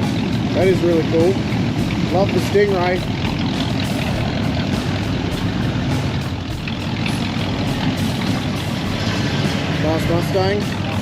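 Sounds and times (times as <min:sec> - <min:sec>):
vehicle engines idling: 0:00.0 - 0:11.0.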